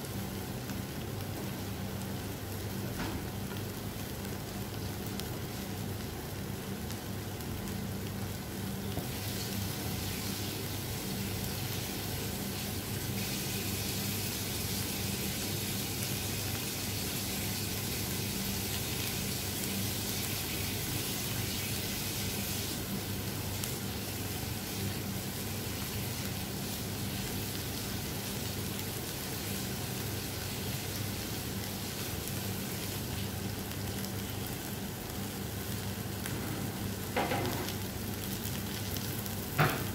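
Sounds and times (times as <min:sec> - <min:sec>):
vegetables sizzling in a pan: 0:00.0 - 0:39.9.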